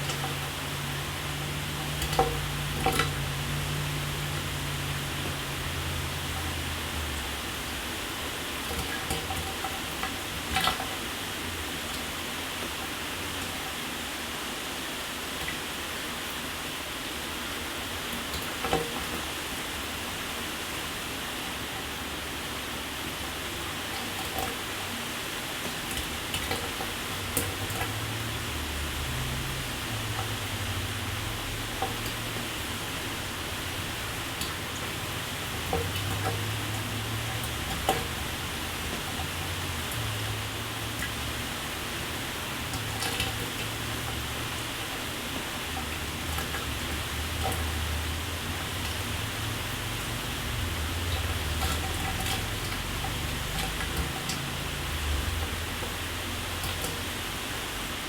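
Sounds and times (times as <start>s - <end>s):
shower water running: 0.0s - 58.0s.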